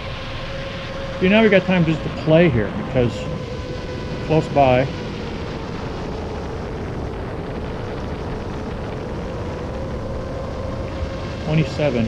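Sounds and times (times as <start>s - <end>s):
distant quadcopter motors humming: 0.0s - 12.0s.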